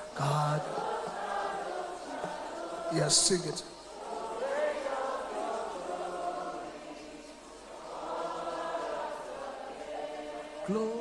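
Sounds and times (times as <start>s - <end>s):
congregation singing a slow chorus: 0.0s - 11.0s.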